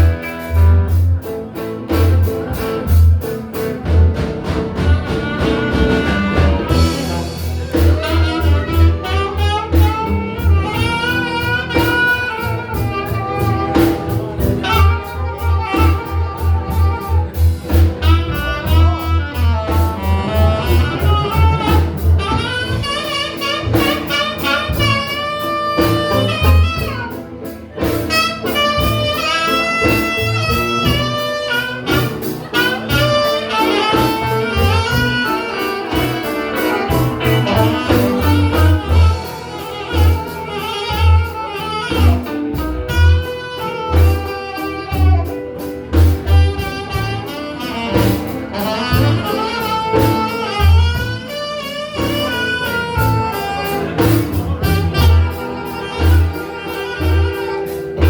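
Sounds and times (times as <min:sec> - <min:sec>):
blues band playing: 0:00.0 - 0:58.0
saxophone melody: 0:00.0 - 0:58.0.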